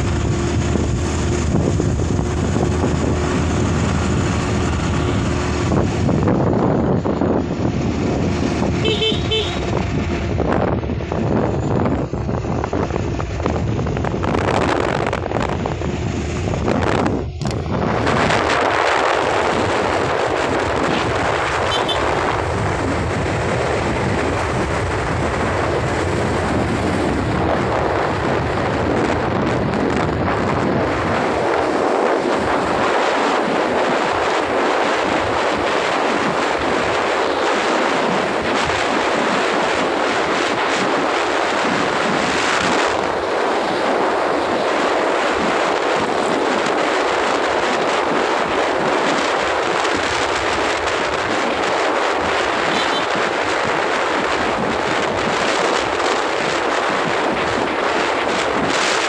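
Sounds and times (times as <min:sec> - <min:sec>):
low motorcycle rumble: 0:00.0 - 0:59.0
wind buffeting microphone: 0:00.0 - 0:59.0.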